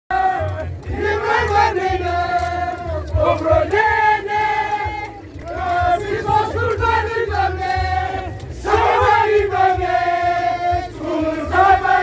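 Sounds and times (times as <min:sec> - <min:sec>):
group chanting in held notes: 0:00.1 - 0:12.0.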